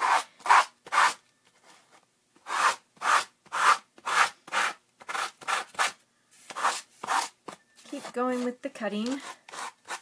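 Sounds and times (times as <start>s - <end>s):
sandpaper scraping back and forth: 0.0s - 1.2s, 2.4s - 10.0s.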